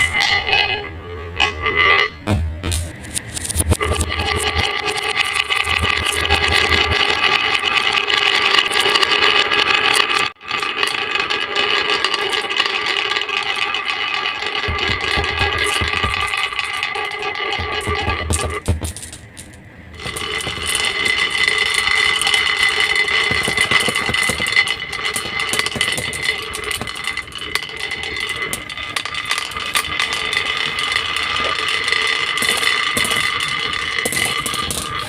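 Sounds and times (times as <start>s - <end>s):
marbles rolling and clicking: 0.0s - 35.0s.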